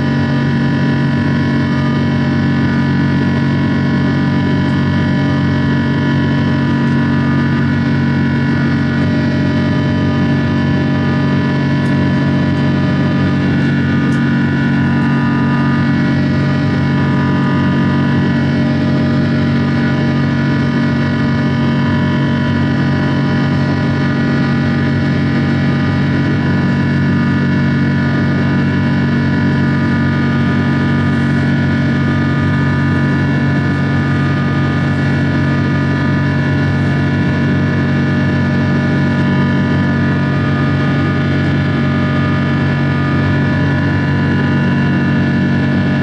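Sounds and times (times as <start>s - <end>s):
constant rush of air: 0.0s - 46.0s
jet engines droning: 0.0s - 46.0s.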